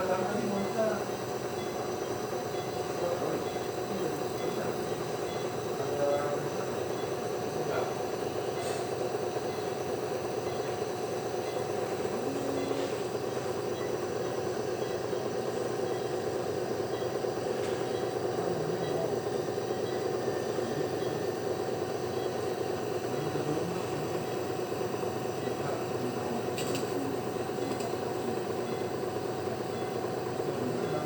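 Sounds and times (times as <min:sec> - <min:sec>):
nebulizer machine humming: 0:00.0 - 0:31.0.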